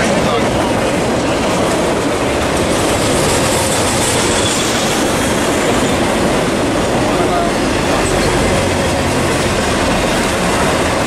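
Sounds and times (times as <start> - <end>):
steel train wheels on rail: 0.0 - 11.0.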